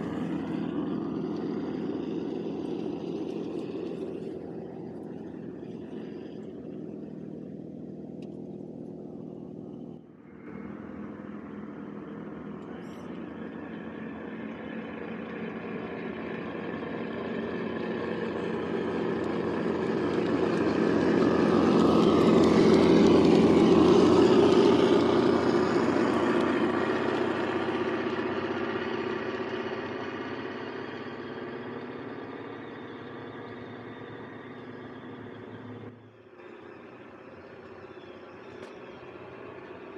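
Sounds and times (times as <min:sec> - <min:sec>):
toy truck engine sound: 0:00.0 - 0:39.9.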